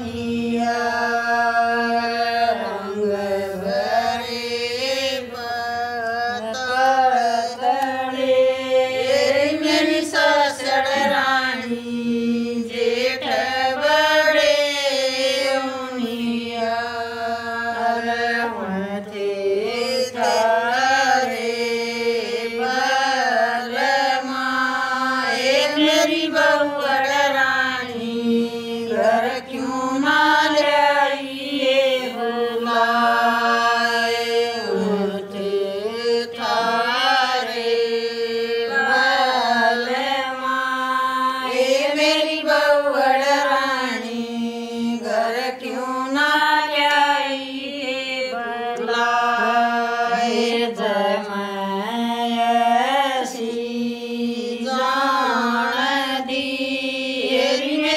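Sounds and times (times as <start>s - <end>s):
women singing unaccompanied: 0.0s - 57.9s.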